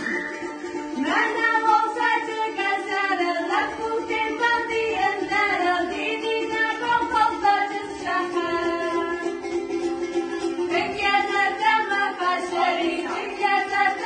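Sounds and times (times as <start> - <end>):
girls singing: 0.0 - 14.0.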